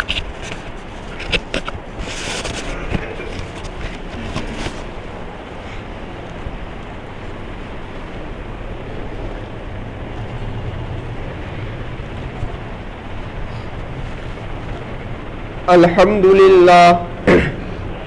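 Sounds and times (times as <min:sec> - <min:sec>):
low rumble: 0:02.6 - 0:18.0.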